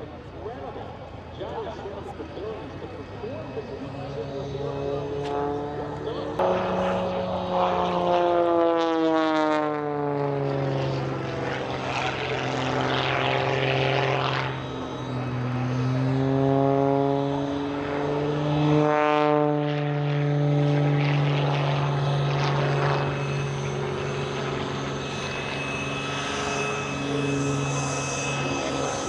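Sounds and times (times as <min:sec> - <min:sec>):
propeller plane flying by: 0:00.0 - 0:29.0.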